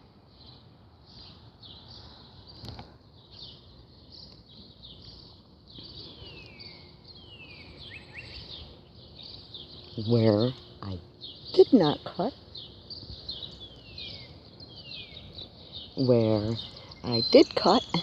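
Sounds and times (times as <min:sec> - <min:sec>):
songbirds chirping: 0:00.0 - 0:18.0
steady outdoor hiss: 0:00.0 - 0:18.0.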